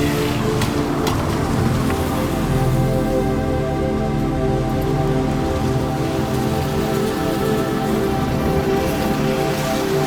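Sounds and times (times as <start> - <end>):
soft music tones: 0.0 - 10.0
steady rain falling: 0.0 - 10.0.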